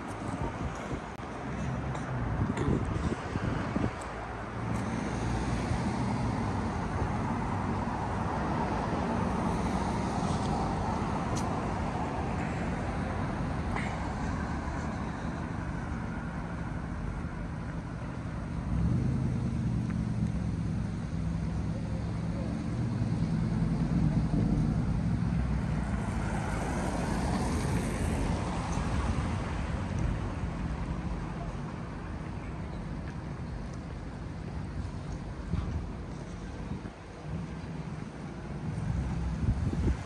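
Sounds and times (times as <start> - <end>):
vehicle engine rumble: 0.0 - 40.0
vehicles passing on street: 0.0 - 40.0.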